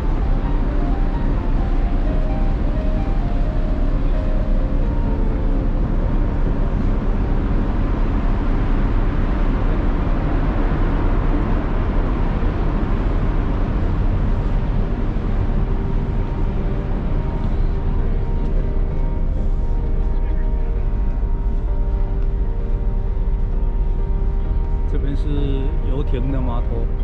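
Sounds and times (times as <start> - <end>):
loud rumbling noise with hiss: 0.0 - 27.0.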